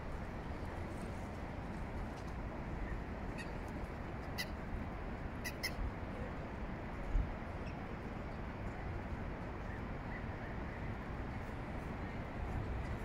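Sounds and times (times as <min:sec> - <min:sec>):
distant city noise: 0:00.0 - 0:13.0.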